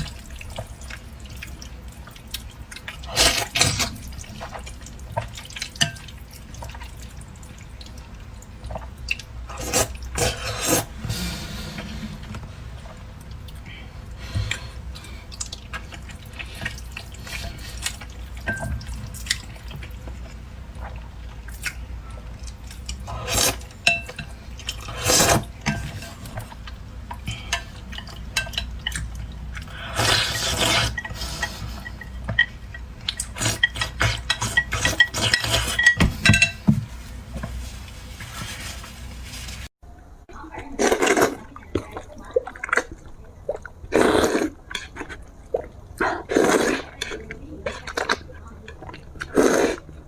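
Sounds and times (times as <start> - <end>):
noodles being slurped: 0.0 - 7.0, 8.7 - 12.4, 13.5 - 32.2, 33.1 - 39.7, 42.5 - 48.4, 49.0 - 50.0.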